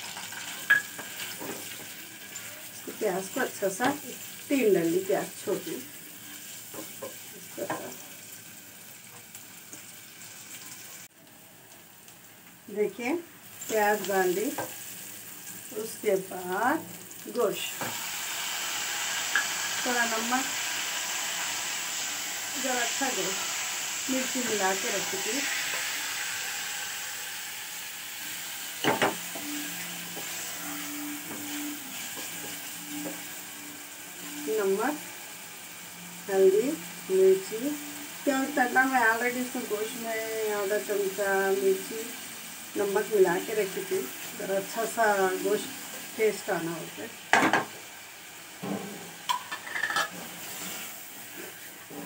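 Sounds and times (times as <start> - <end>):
onions sizzling in oil: 0.0 - 52.0.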